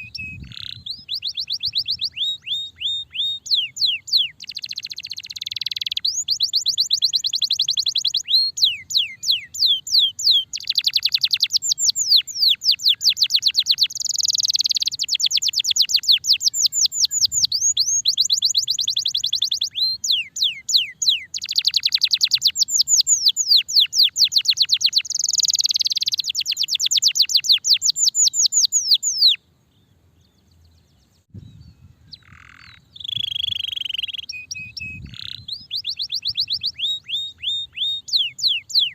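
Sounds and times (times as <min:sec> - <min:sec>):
canary singing trills: 0:00.0 - 0:38.9
soft bird chirps: 0:00.0 - 0:38.9.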